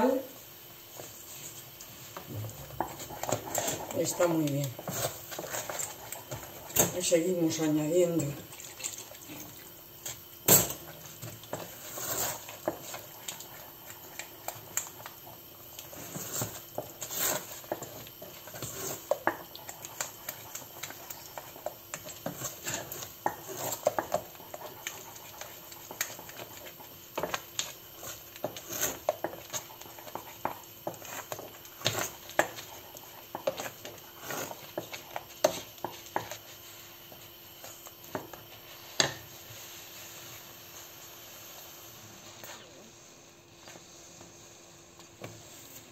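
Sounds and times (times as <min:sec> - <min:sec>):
wooden spoon scraping a pan: 0:00.9 - 0:41.0.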